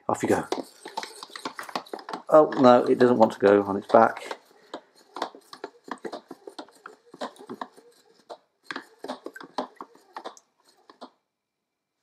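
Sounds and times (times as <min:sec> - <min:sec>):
wind-up toy splashing water: 0:00.1 - 0:11.2.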